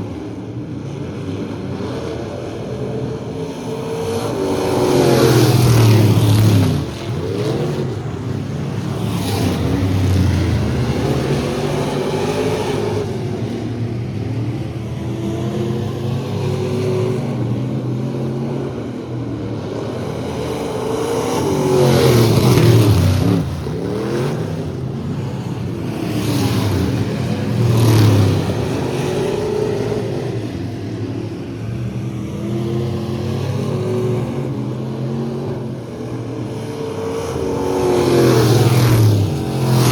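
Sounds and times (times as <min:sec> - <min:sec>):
race truck engines revving: 0:00.0 - 0:39.9.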